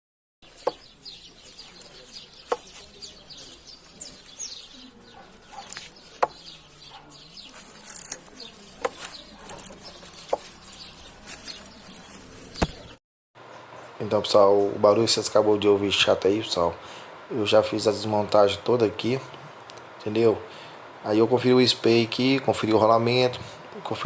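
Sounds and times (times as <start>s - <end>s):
birds chirping: 0.4s - 24.0s.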